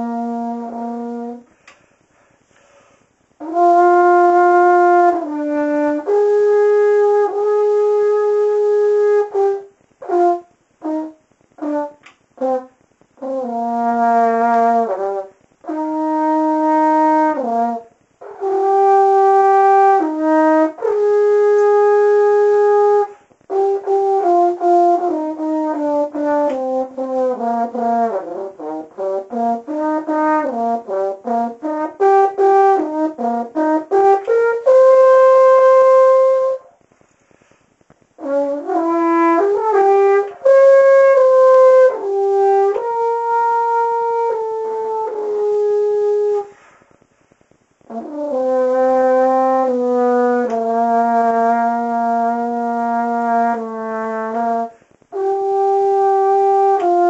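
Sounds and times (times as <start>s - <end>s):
french horn playing: 0.0s - 1.8s, 3.4s - 36.8s, 38.2s - 46.8s, 47.8s - 57.0s.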